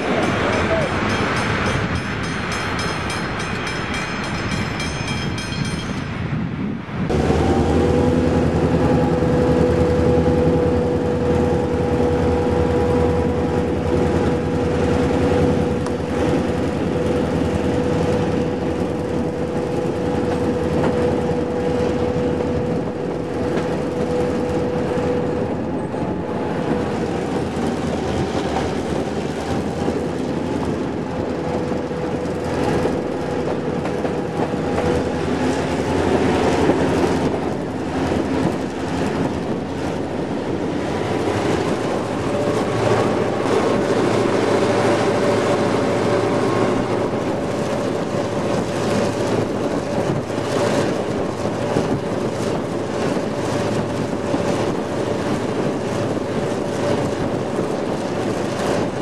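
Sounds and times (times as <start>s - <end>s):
hissy train noise: 0.0s - 59.0s
locomotive engine rumble: 0.0s - 59.0s.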